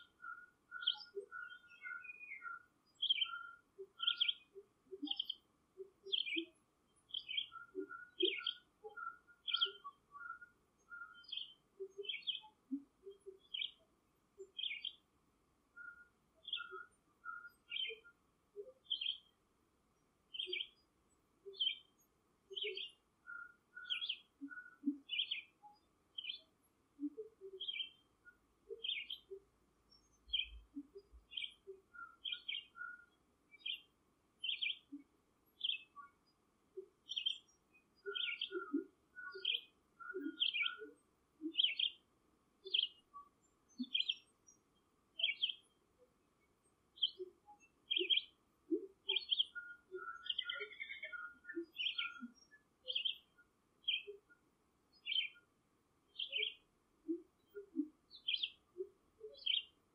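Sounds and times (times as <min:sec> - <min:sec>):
bird high chirps: 0:00.0 - 0:13.8, 0:14.4 - 0:15.0, 0:15.8 - 0:19.3, 0:20.3 - 0:20.8, 0:21.4 - 0:35.0, 0:35.6 - 0:36.2, 0:36.8 - 0:42.0, 0:42.6 - 0:44.6, 0:45.2 - 0:45.7, 0:47.0 - 0:55.5, 0:56.1 - 0:59.8.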